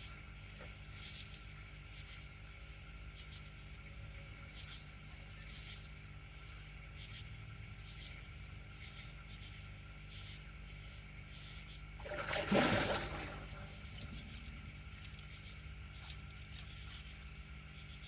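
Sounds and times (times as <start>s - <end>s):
insects chirping: 0.0s - 18.0s
steady low hum: 0.0s - 18.0s.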